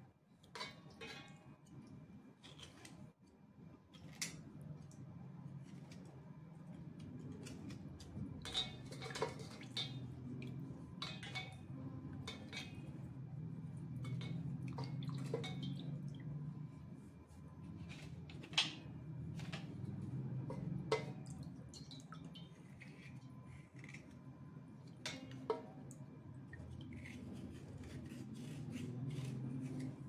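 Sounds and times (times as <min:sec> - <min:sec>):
water sloshing in a steel bowl: 0:00.4 - 0:03.2, 0:06.7 - 0:30.0.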